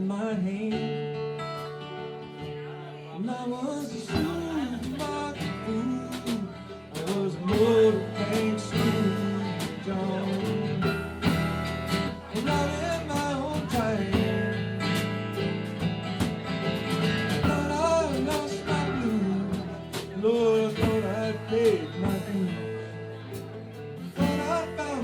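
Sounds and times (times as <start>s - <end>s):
guitars playing: 0.1s - 25.0s.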